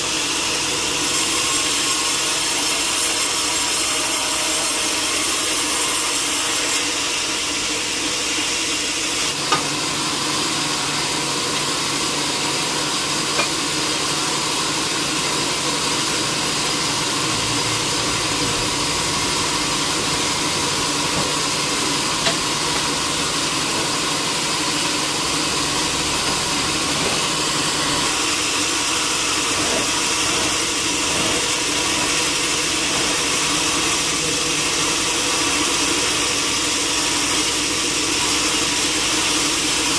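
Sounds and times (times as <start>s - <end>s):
sawmill motor hum: 0.0s - 39.9s.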